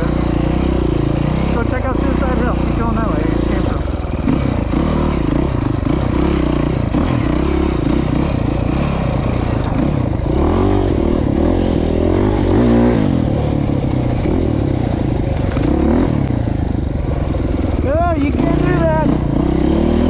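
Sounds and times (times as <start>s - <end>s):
off-road vehicle engine revving: 0.0s - 20.0s
vehicle rattling: 0.0s - 20.0s.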